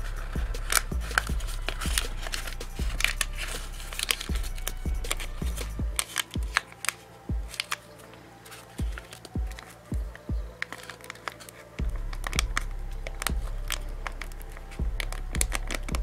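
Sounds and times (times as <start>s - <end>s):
background music with beat: 0.0s - 16.0s
glue stick rubbing paper: 0.0s - 16.0s
paper rustles and taps: 0.7s - 4.5s, 5.1s - 14.4s.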